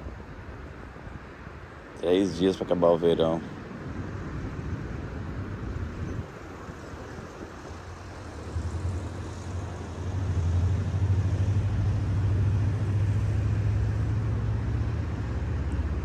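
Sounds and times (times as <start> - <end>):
faint outdoor hiss: 0.0 - 16.0
wind buffeting microphone: 0.0 - 16.0.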